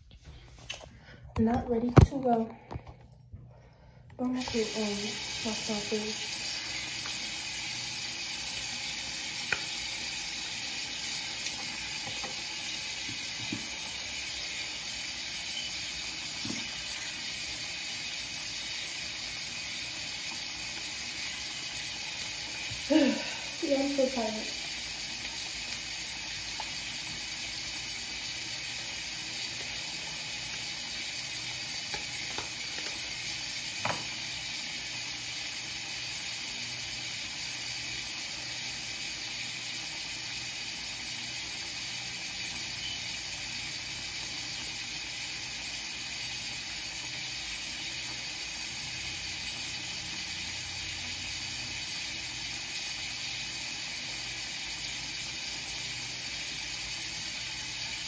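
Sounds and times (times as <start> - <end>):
steady hiss: 4.3 - 58.0.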